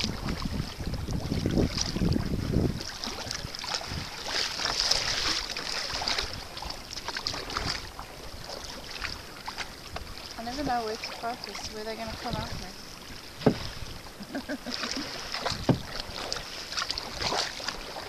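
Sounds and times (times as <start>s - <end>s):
water lapping and splashing: 0.0s - 18.0s
wind buffeting microphone: 0.0s - 18.0s.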